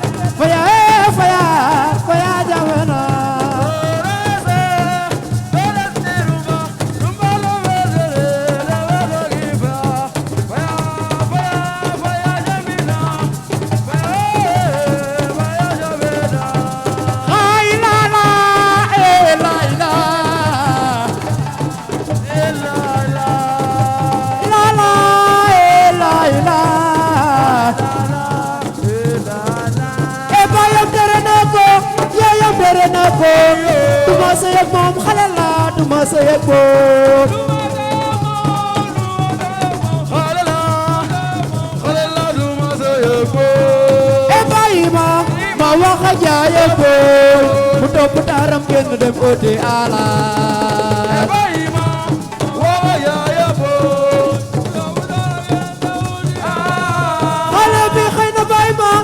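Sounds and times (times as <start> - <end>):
band music with drums and shakers: 0.0 - 59.0.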